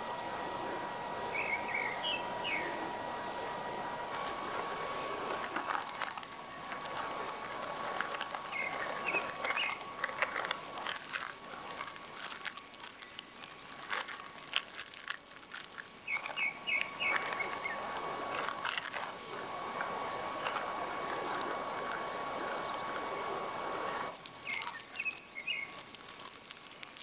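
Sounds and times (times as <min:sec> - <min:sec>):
birds chirping: 0:00.0 - 0:14.9, 0:15.5 - 0:27.0
plastic wrap crinkling: 0:04.0 - 0:27.0.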